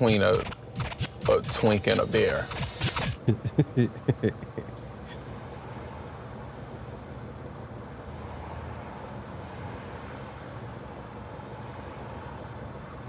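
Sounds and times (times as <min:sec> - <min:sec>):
road and engine noise in a van: 0:00.0 - 0:13.0.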